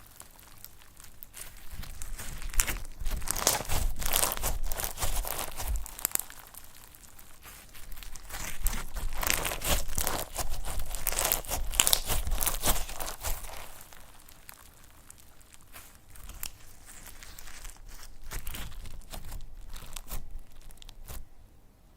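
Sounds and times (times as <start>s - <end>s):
slime squished by hand: 0.0s - 21.3s.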